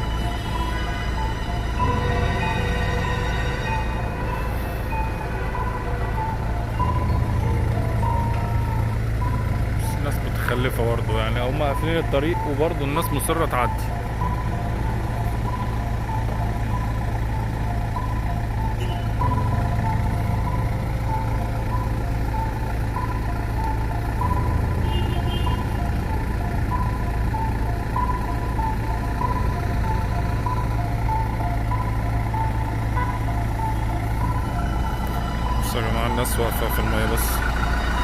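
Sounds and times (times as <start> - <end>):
vehicle engines idling: 0.0 - 38.0.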